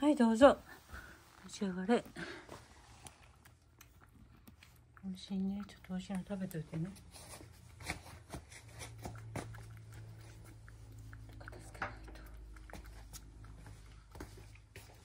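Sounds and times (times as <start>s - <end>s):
low steady hum: 0.0s - 15.0s
cat chewing and licking: 0.7s - 15.0s.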